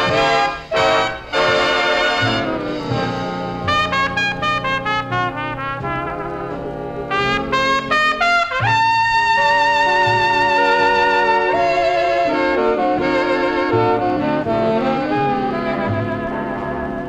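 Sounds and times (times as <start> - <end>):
big band playing a ballad: 0.0 - 17.0
solo trumpet: 0.0 - 17.0.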